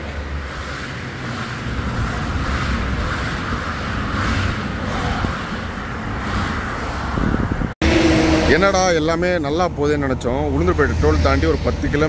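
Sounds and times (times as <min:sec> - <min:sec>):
highway traffic passing: 0:00.0 - 0:12.0.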